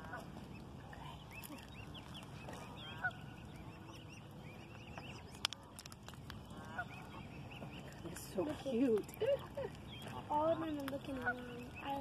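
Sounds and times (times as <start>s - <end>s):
cygnets peeping: 0.0s - 12.0s.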